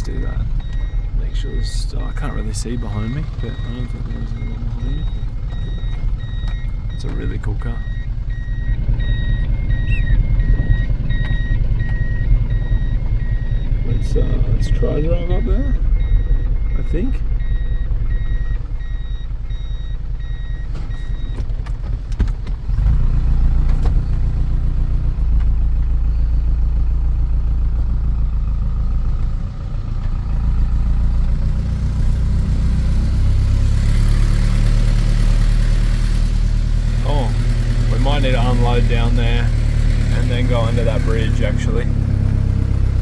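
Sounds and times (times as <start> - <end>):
truck engine: 0.0 - 43.0
truck reversing alarm beeping: 0.0 - 43.0.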